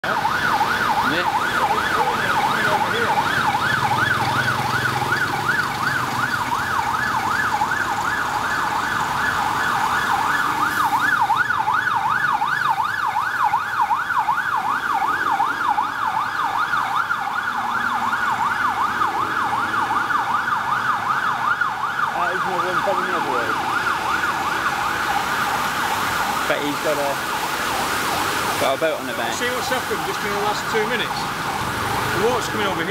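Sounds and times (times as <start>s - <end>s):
electronic siren yelping: 0.0s - 32.9s.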